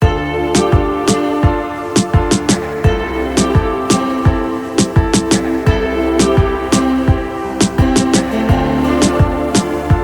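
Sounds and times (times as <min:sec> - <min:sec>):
drum beat with kick and snare: 0:00.0 - 0:10.0
sustained chords: 0:00.0 - 0:10.0.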